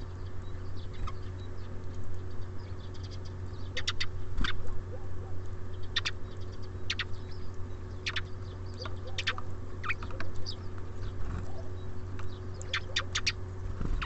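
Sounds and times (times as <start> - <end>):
songbirds chirping: 0.0 - 14.0
steady low hum: 0.0 - 14.0.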